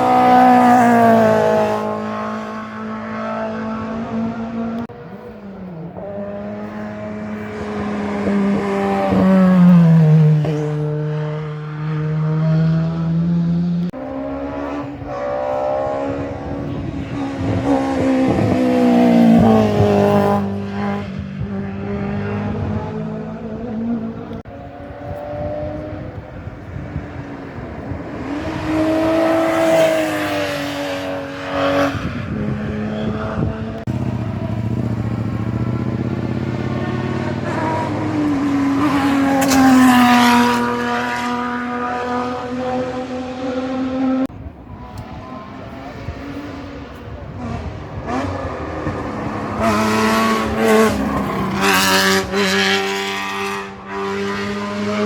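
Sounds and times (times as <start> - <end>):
racing car engines revving past: 0.0 - 55.0.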